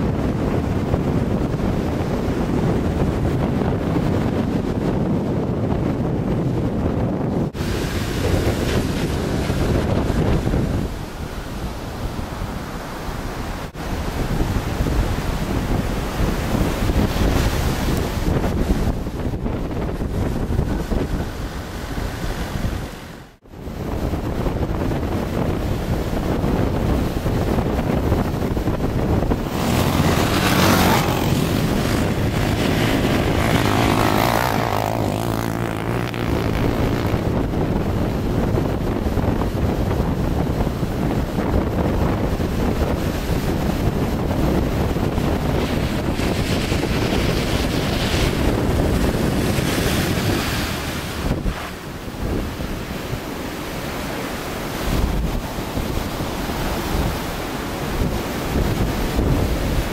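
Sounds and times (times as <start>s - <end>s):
wind buffeting microphone: 0.0s - 59.9s
breaking surf: 7.5s - 24.1s, 24.7s - 59.9s.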